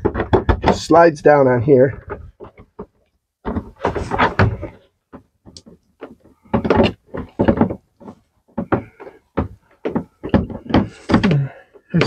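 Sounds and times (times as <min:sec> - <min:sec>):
plastic holder knocking and scraping: 0:00.0 - 0:01.0, 0:01.8 - 0:12.0.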